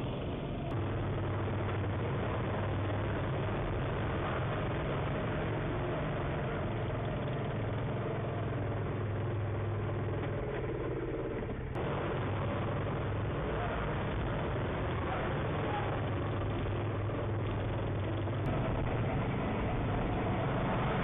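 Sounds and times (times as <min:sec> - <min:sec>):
engines humming: 0:00.0 - 0:21.0.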